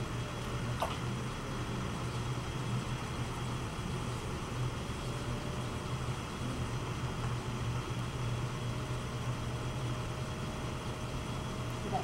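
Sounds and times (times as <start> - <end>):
pottery wheel motor hum: 0.0 - 12.0.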